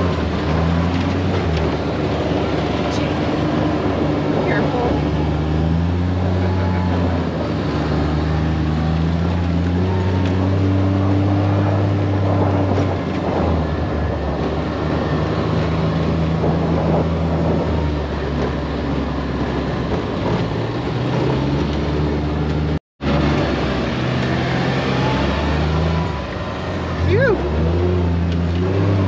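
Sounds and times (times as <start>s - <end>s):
tyres rumbling on dirt road: 0.0s - 29.0s
vehicle engine running: 0.0s - 29.0s.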